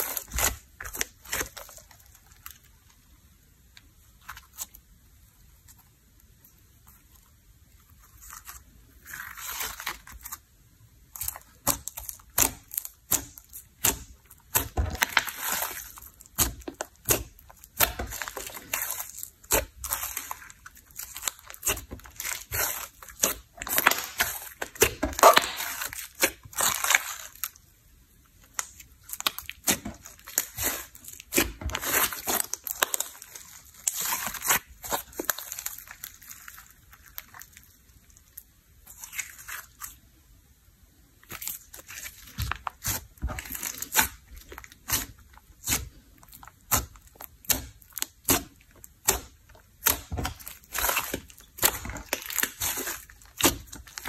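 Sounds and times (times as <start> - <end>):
slime crackling and popping: 0.0 - 2.9, 8.0 - 27.7, 28.4 - 40.1, 41.2 - 54.0.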